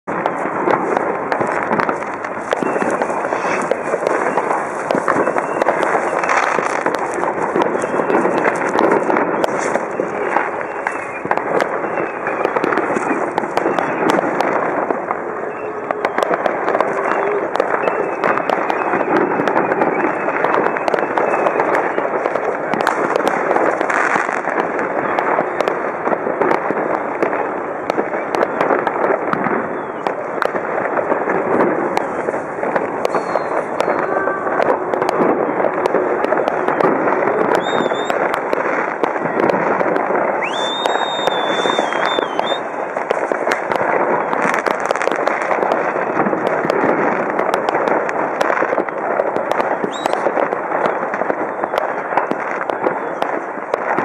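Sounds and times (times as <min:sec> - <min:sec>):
fireworks crackling and banging: 0:00.0 - 0:54.0
high firework whistle: 0:00.2 - 0:25.9, 0:31.6 - 0:46.3, 0:49.6 - 0:54.0.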